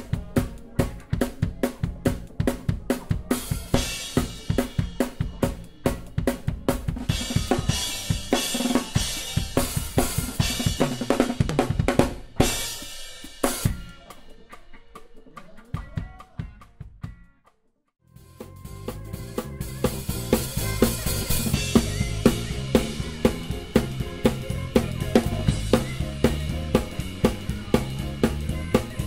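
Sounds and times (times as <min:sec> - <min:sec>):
drum kit playing: 0:00.0 - 0:17.3, 0:18.1 - 0:29.0.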